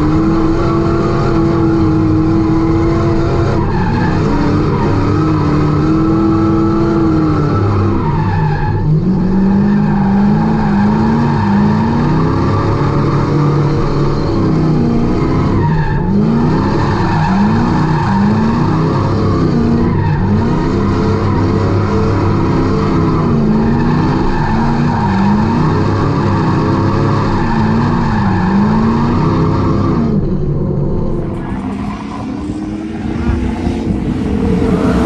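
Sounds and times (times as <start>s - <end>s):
car engine revving: 0.0s - 35.0s
tyres skidding: 0.0s - 35.0s.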